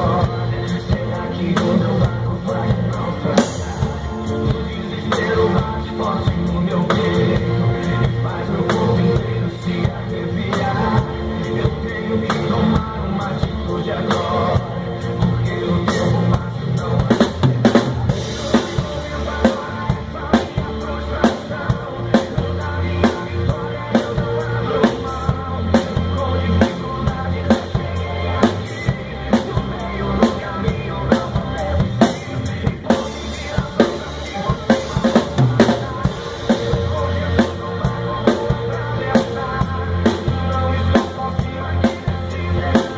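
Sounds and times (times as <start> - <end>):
drum kit playing: 0.0 - 42.9
recorded gospel song: 0.0 - 42.9.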